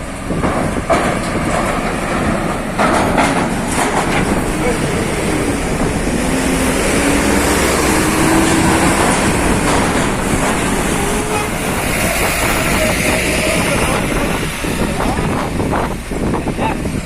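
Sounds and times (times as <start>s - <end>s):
heavy vehicle rolling past: 0.0s - 17.0s.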